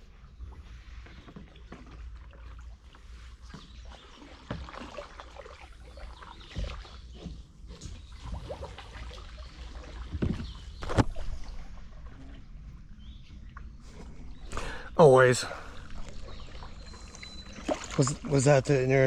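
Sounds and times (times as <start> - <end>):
paddle dipping and dripping water: 0.0 - 19.0
small splashes: 1.2 - 19.0.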